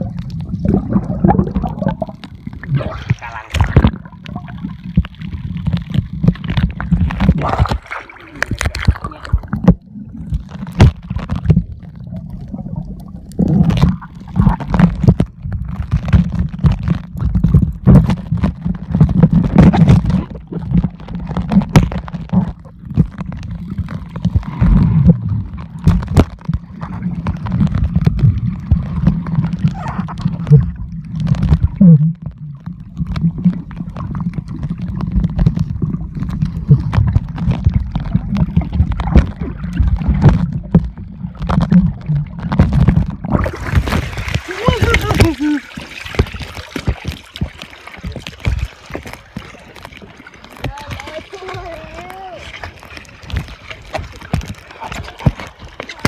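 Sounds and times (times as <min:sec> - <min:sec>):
underwater water rumble: 0:00.0 - 0:56.0
sharp underwater knocks: 0:00.7 - 0:04.1, 0:05.6 - 0:11.8, 0:13.4 - 0:56.0.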